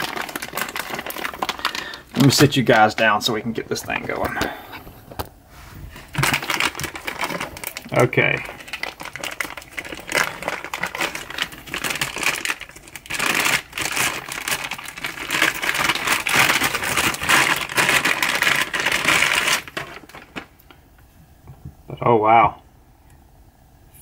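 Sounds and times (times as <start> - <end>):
bubble wrap and plastic crinkling: 0.0 - 21.0.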